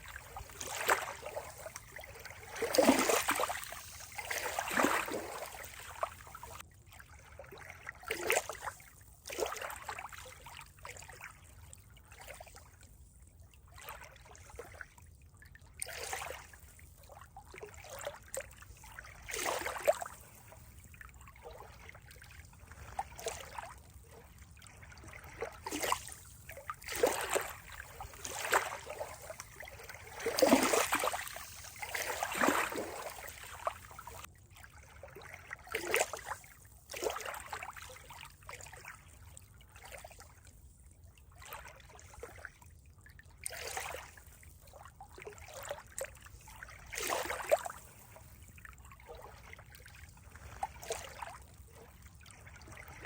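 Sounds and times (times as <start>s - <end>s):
stream trickling and splashing: 0.0s - 53.0s.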